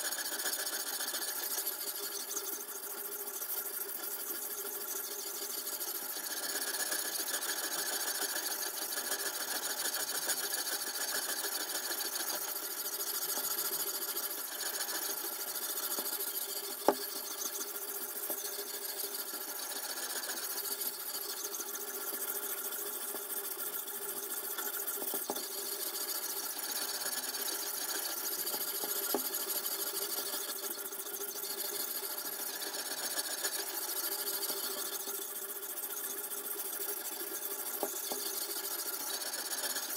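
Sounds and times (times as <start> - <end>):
sharpening stone rasping on steel: 5.1 - 30.8, 31.4 - 35.1, 37.1 - 39.9.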